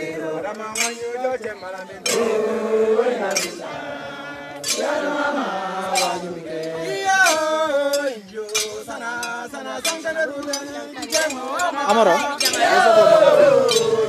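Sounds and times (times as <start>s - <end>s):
group of people chanting and singing: 0.0s - 14.0s
sharp metallic clinks: 0.0s - 14.0s.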